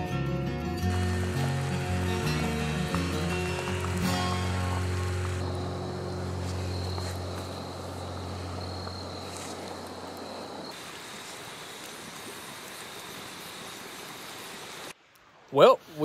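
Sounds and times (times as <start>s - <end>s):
night insects trilling: 0.9s - 15.0s.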